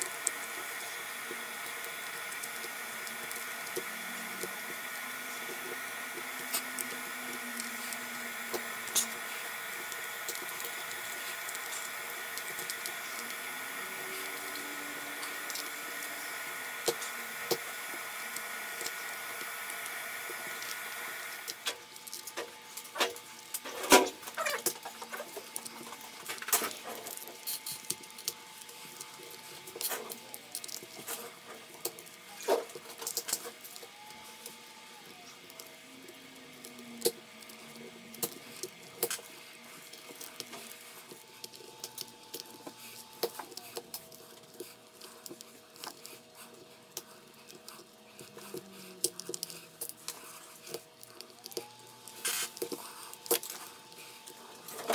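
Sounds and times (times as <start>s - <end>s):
heat gun whirring hum: 0.0s - 54.9s.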